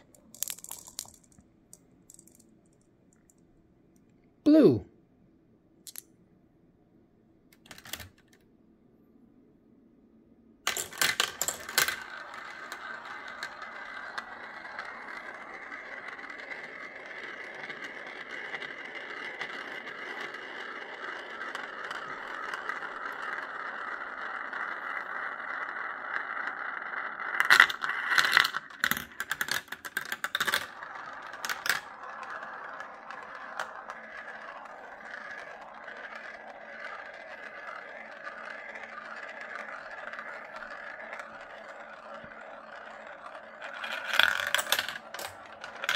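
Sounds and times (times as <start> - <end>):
marbles rolling on plastic tracks: 0.0 - 3.4, 5.9 - 6.1, 7.6 - 8.4, 10.7 - 45.9.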